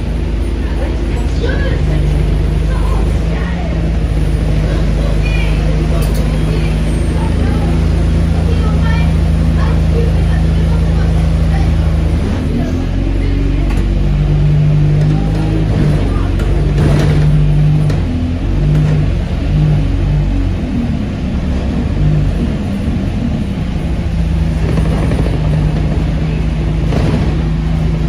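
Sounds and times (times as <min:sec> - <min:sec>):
bus drivetrain hum: 0:00.0 - 0:28.0
road rumble: 0:00.0 - 0:28.0.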